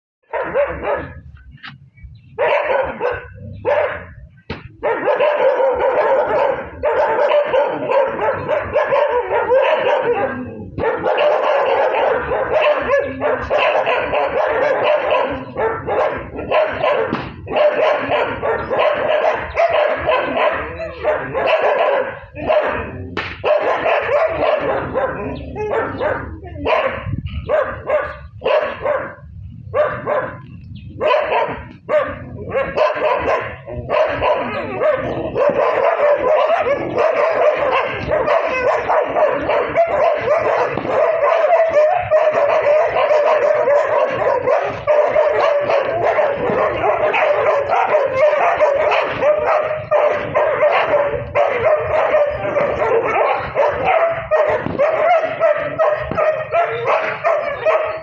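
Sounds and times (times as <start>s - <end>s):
many dogs barking: 0.2s - 1.6s, 2.2s - 58.0s.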